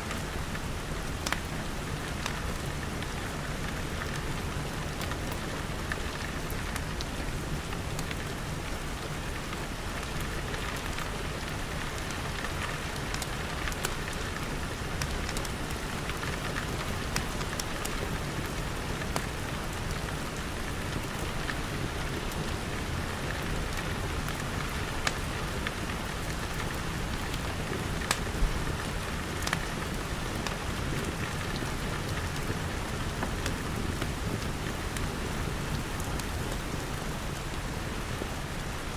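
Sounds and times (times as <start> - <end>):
steady rain falling: 0.0 - 38.9
wood fire crackles: 0.1 - 38.9.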